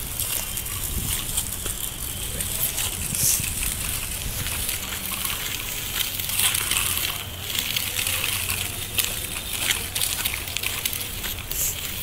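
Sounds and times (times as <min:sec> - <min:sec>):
bicycle wheels crunching on grit: 0:00.0 - 0:12.0.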